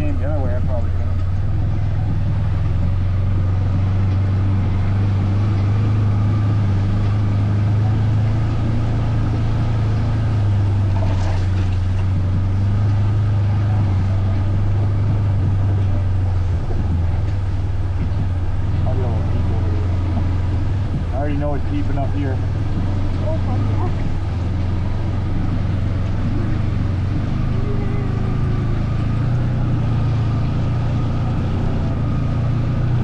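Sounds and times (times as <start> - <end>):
vehicle engine idling low: 0.0 - 33.0.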